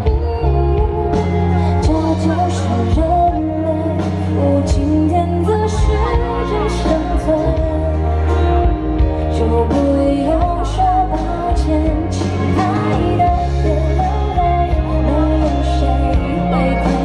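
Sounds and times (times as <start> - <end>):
live pop band playing: 0.0 - 17.0
woman singing: 0.0 - 17.0.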